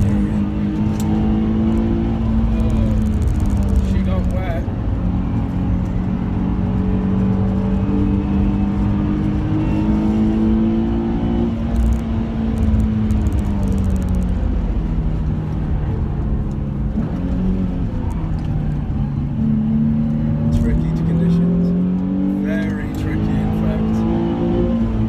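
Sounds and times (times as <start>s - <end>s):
car engine accelerating: 0.0s - 25.0s
road and tyre rumble: 0.0s - 25.0s.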